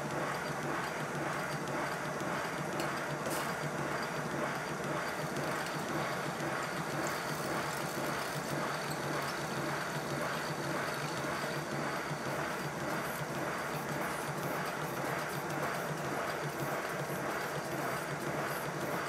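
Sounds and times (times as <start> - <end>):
steam exhaust beat: 0.1 - 19.0
valve gear clatter: 0.1 - 19.0.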